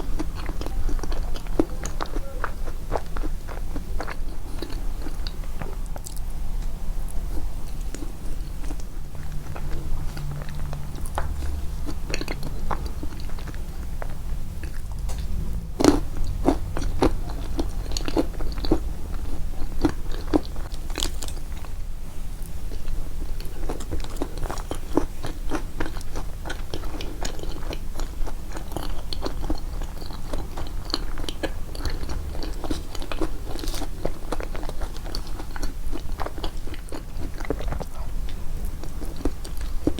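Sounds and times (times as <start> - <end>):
wet chewing: 0.0 - 21.8, 22.4 - 39.9.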